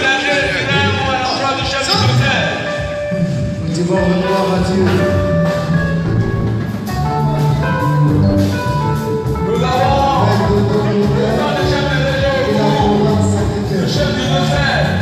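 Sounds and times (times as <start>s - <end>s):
drums and percussion: 0.0s - 15.0s
live church music: 0.0s - 15.0s.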